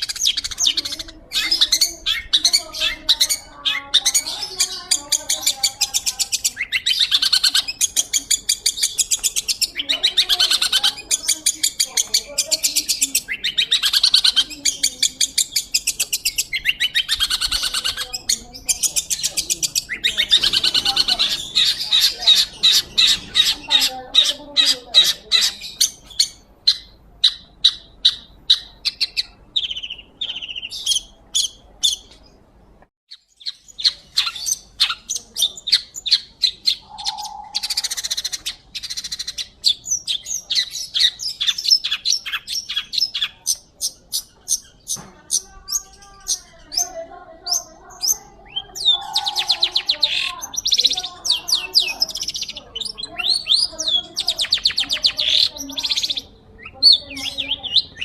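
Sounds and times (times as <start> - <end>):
bird chattering song: 0.0 - 58.0.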